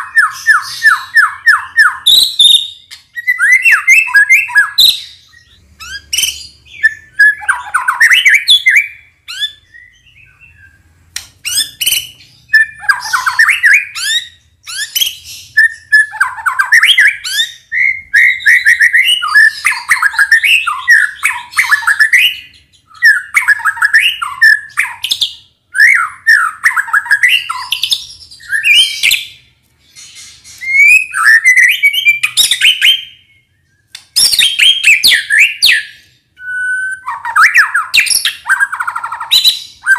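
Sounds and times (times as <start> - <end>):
bird singing whistled phrases: 0.0 - 10.8, 11.4 - 29.4, 30.0 - 39.9.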